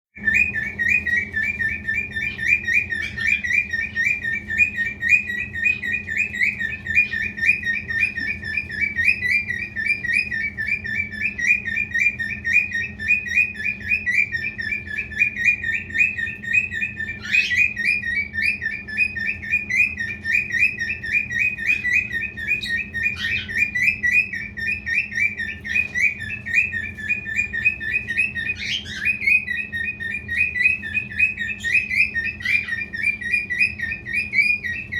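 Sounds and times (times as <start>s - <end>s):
cockatiel chirping: 0.2s - 34.9s
faint steady hum: 0.2s - 34.9s.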